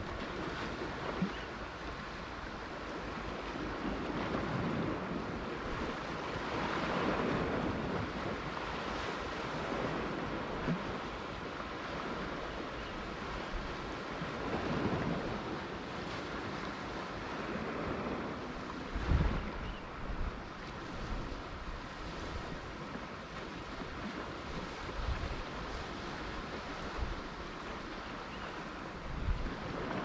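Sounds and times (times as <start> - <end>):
ocean waves breaking on shore: 0.0 - 30.0
wind gusts on microphone: 0.0 - 30.0.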